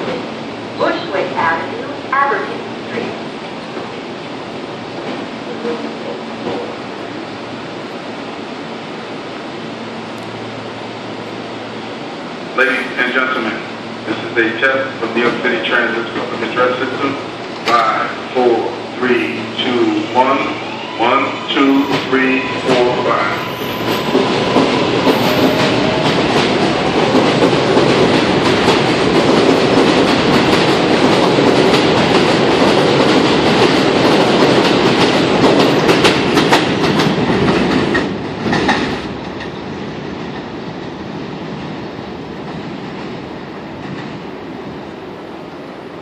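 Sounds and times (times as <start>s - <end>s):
subway train wheels clacking: 0.0s - 46.0s
train rumble: 0.0s - 46.0s.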